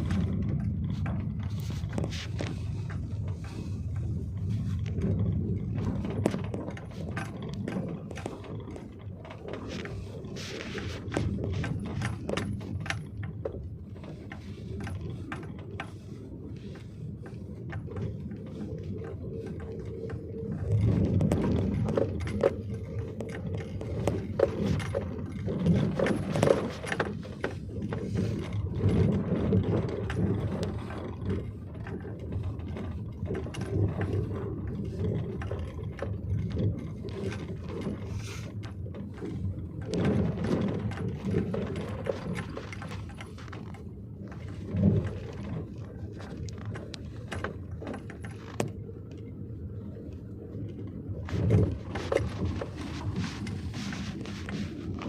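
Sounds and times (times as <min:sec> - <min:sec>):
clicks and rattles: 0:00.0 - 0:55.0
vehicle rumble on rough road: 0:00.0 - 0:55.0.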